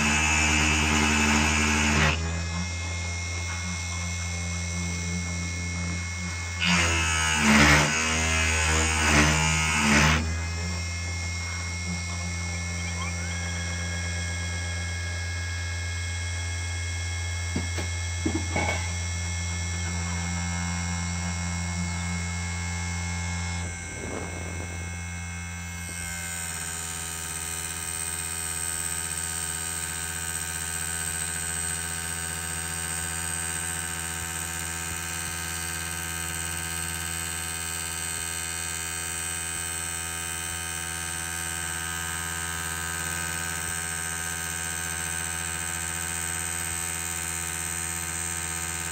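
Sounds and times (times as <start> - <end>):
motor hum and whine: 0.0 - 48.9.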